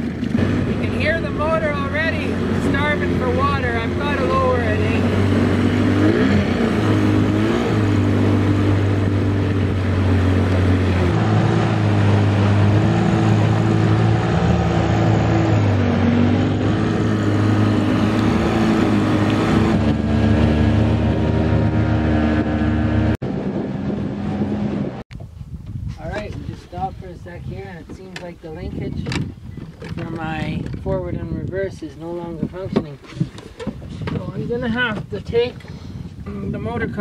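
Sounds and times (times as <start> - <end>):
outboard motor running: 0.0 - 25.0, 27.5 - 37.0.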